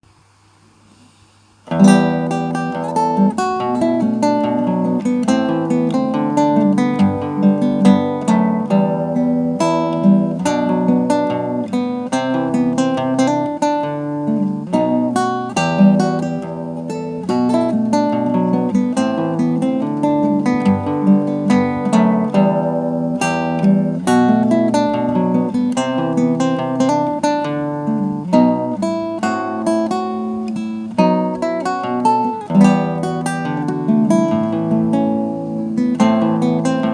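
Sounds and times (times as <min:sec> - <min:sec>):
acoustic guitar playing: 0:01.6 - 0:36.9.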